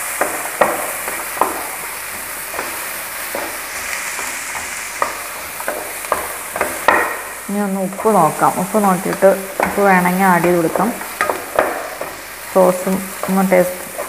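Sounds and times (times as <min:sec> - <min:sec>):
food sizzling in a frying pan: 0:00.0 - 0:14.0
spatula scraping a pan: 0:00.0 - 0:14.0.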